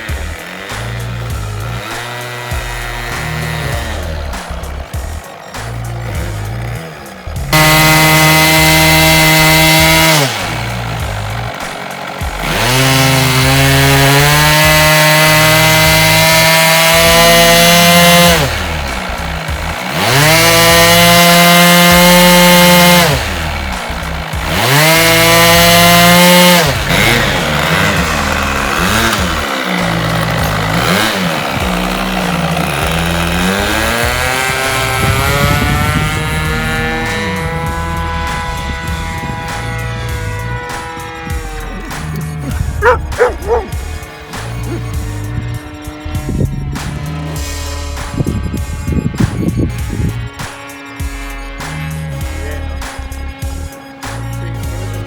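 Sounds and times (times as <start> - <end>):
model aircraft engine revving: 0.0 - 55.0.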